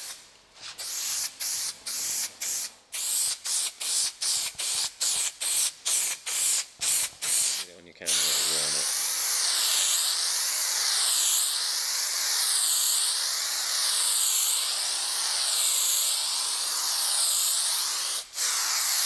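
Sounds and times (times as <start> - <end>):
aerosol can hissing: 0.0 - 19.0.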